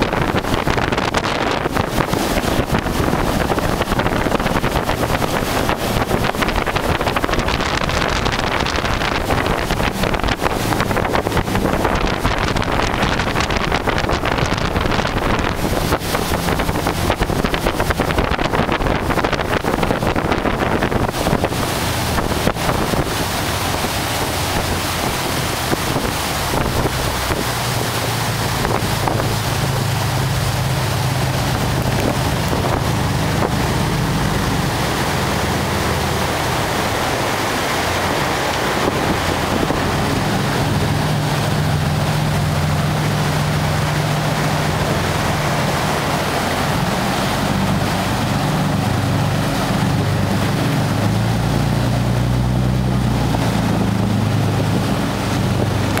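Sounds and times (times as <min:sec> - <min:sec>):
powerboat engines droning: 0:00.0 - 0:56.0
water rushing from hulls: 0:00.0 - 0:56.0
wind buffeting microphone: 0:00.0 - 0:56.0.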